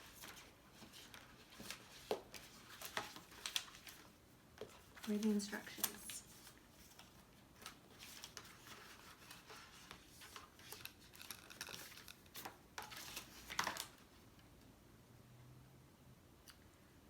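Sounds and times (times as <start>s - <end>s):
paper and cardboard rustling: 0.0s - 14.3s.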